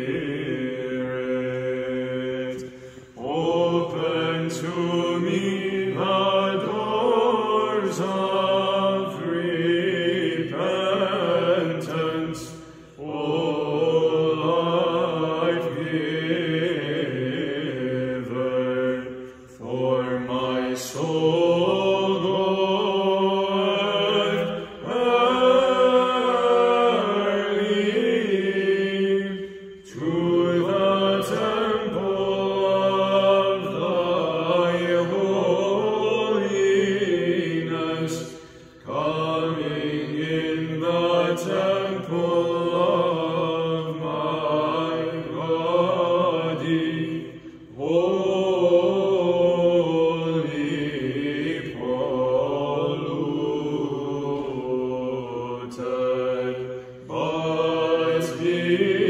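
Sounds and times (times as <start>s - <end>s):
group chanting a melody: 0.0s - 59.0s.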